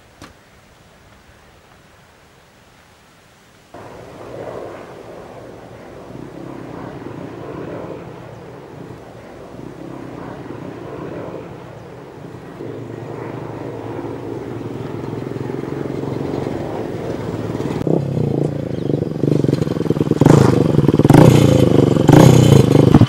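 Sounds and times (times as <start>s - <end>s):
motorcycle engine approaching: 3.8s - 23.0s.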